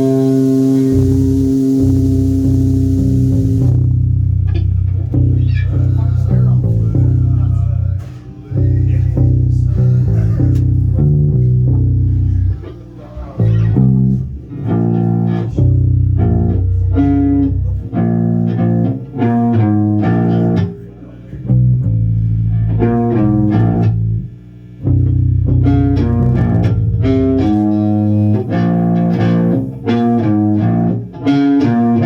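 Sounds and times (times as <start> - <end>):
bass guitar playing: 0.0 - 32.0.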